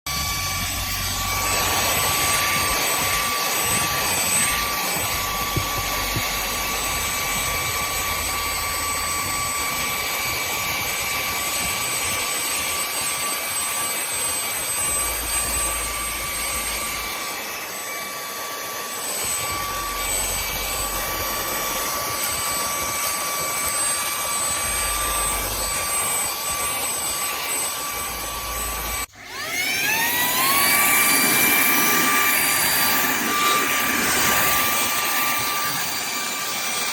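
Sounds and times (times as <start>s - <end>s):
handheld vacuum cleaner running: 0.1s - 36.9s.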